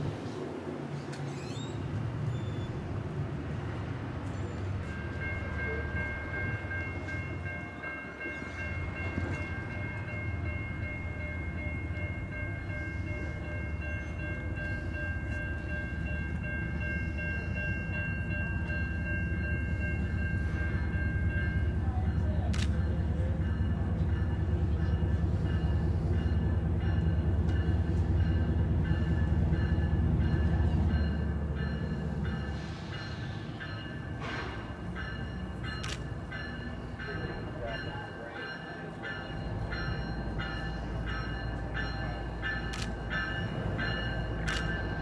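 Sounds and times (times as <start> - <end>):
locomotive engine rumble: 1.2 - 45.0.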